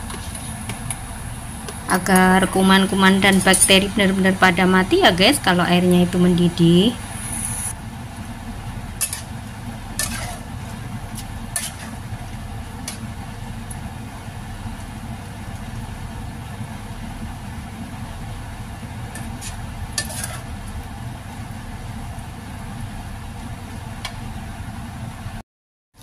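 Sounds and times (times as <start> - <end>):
water boiling: 0.0 - 25.3.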